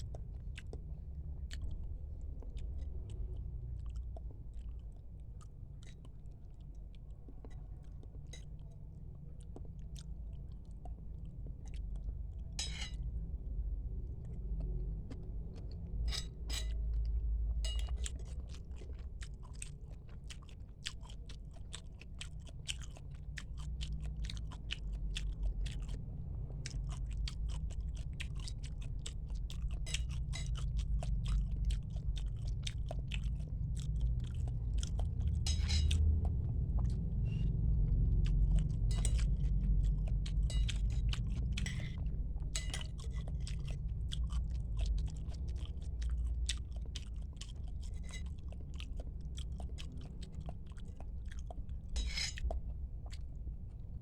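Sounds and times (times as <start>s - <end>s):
steady low rumble: 0.0s - 54.0s
wet chewing and biting: 0.0s - 54.0s.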